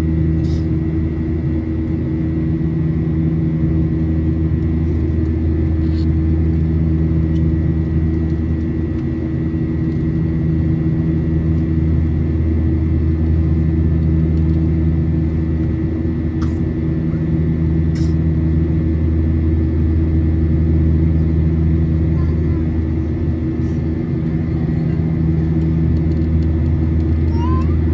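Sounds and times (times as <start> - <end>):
aircraft cabin engine drone: 0.0 - 27.9.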